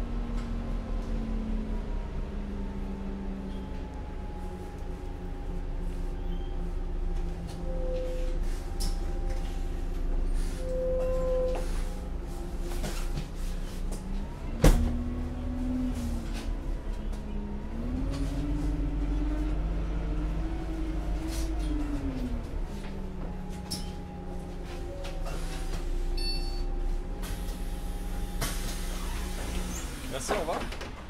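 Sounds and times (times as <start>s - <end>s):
bus engine running: 0.0s - 31.0s.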